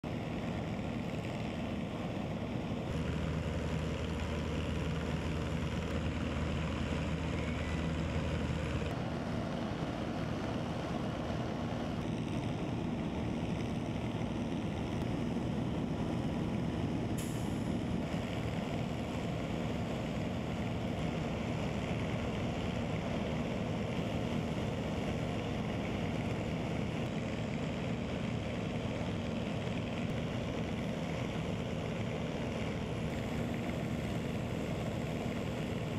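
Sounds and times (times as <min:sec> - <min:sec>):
fire engines idling: 0:00.0 - 0:35.9.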